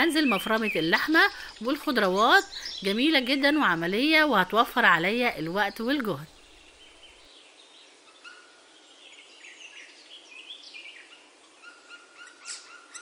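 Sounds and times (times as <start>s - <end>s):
birds chirping: 0.0s - 13.0s
light steady hiss: 0.0s - 13.0s.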